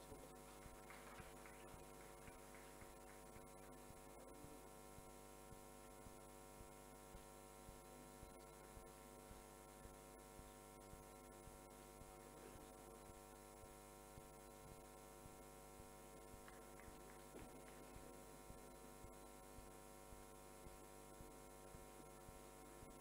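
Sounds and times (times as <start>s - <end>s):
faint electrical hum: 0.0s - 23.0s
soft low pulse: 0.0s - 23.0s.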